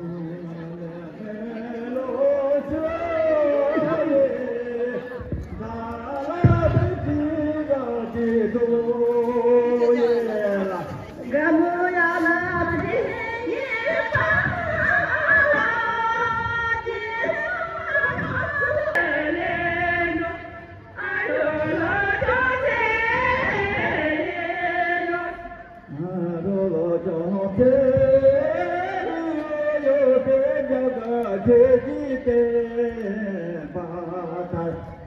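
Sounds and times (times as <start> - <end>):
voices singing: 0.0 - 35.0.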